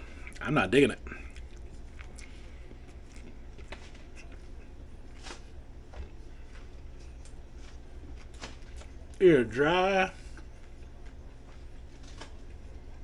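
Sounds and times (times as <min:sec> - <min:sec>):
faint chewing: 0:00.0 - 0:09.2, 0:10.2 - 0:13.0
steady low hum: 0:00.0 - 0:13.0.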